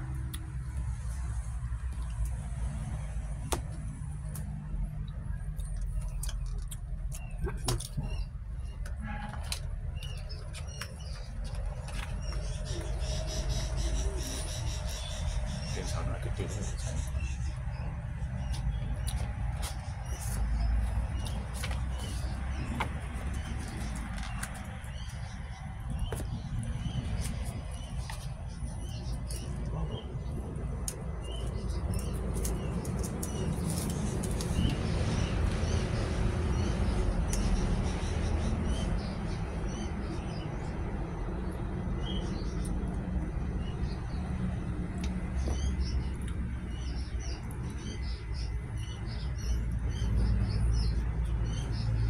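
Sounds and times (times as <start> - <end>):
small birds chirping: 0.2 - 52.0.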